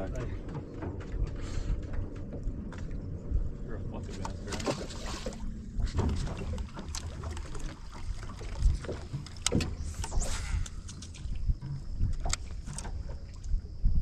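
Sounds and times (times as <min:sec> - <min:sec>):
water lapping against boat hull: 0:00.0 - 0:14.0
wind rumble on microphone: 0:00.0 - 0:14.0.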